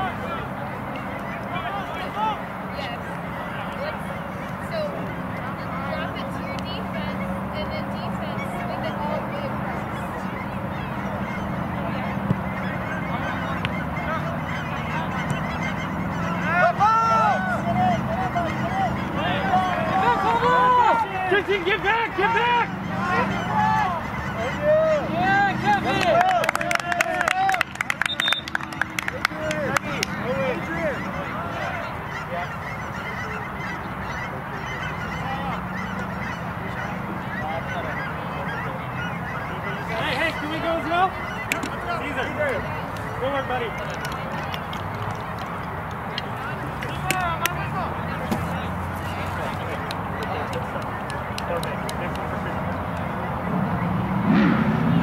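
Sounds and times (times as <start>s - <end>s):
honking bird calls: 0.0s - 55.0s.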